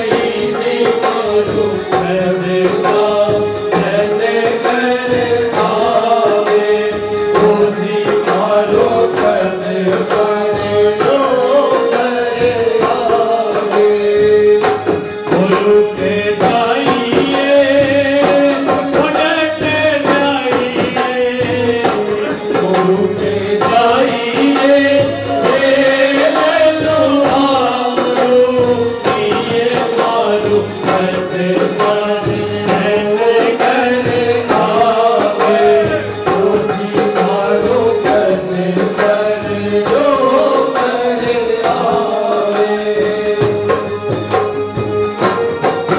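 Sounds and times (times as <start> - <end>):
person singing folk song: 0.0 - 43.9
frame drum rhythm: 0.0 - 45.9.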